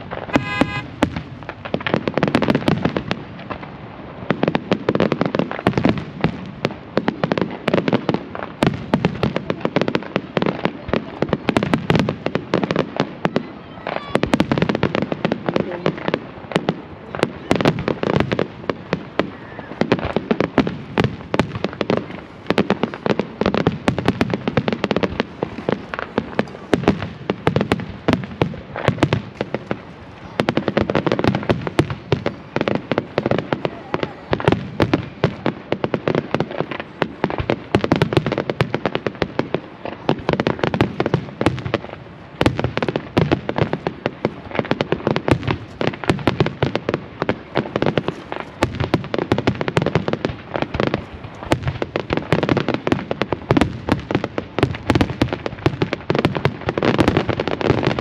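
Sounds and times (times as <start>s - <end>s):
fireworks bangs and crackles: 0.0s - 58.0s
low fireworks booms: 0.0s - 58.0s.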